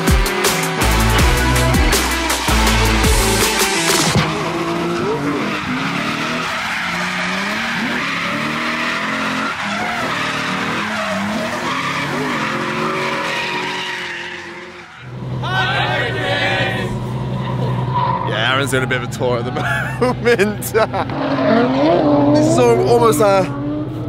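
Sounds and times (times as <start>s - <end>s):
car engine revving: 0.0s - 24.0s
tyres screeching: 0.3s - 23.3s.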